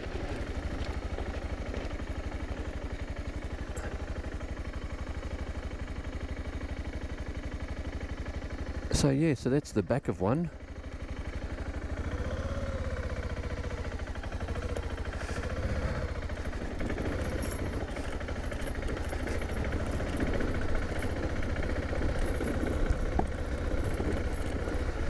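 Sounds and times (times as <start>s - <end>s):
motorcycle engine at low speed: 0.0s - 25.0s.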